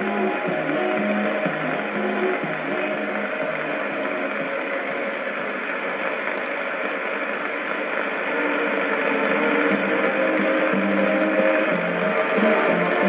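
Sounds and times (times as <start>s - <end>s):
faint music: 0.0s - 13.0s
radio static hiss: 0.0s - 13.0s.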